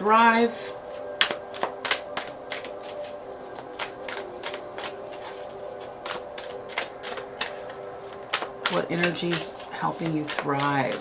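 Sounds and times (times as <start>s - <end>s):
cards being shuffled: 0.5s - 11.0s.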